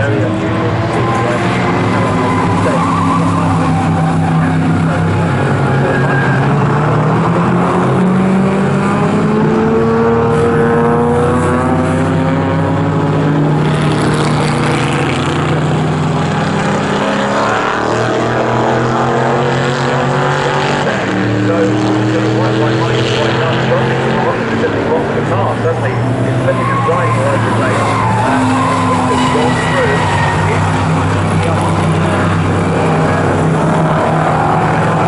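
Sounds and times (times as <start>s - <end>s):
race car engines passing: 0.0s - 35.0s.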